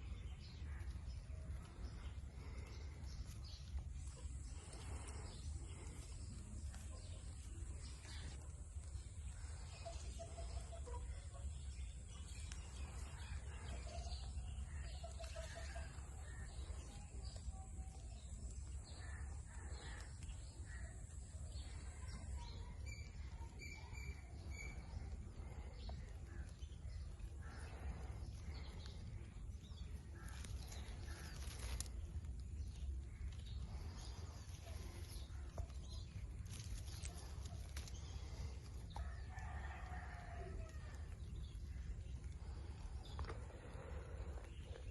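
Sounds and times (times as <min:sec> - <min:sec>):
steady low rumble: 0:00.0 - 0:39.4, 0:40.6 - 0:44.9.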